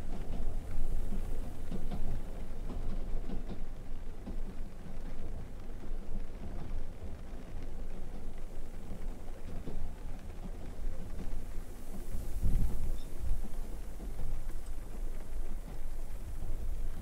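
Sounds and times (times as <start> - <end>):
faint crackles: 0.0 - 17.0.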